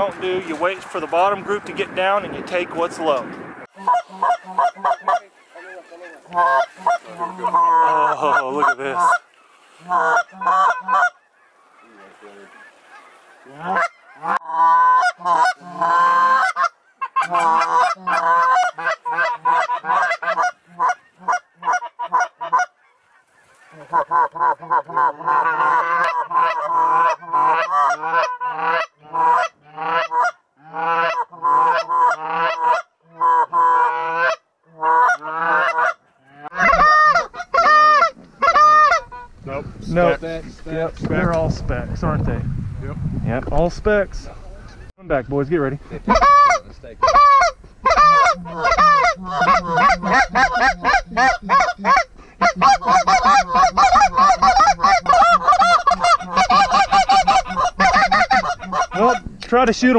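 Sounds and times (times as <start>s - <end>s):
goose honking: 3.7s - 39.4s, 46.0s - 59.9s.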